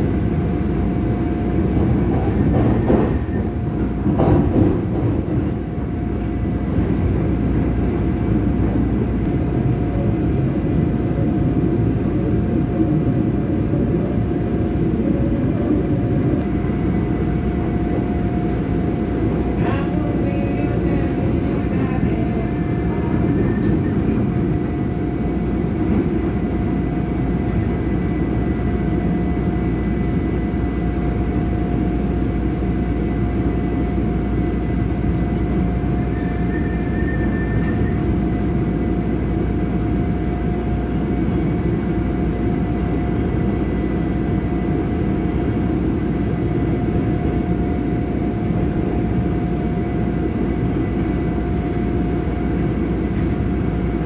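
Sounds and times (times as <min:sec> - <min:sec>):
train car rumbling on track: 0:00.0 - 0:54.0.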